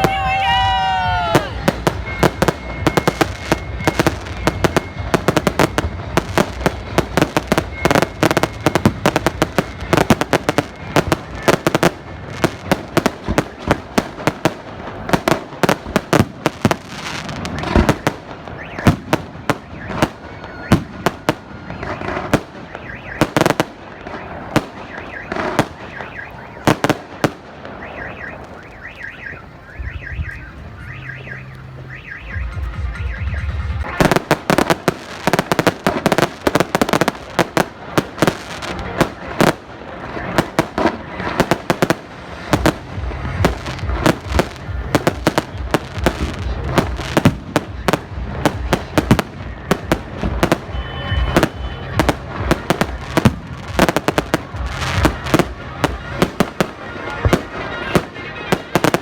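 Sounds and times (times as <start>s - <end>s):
firecrackers crackling bangs: 0.0s - 59.0s.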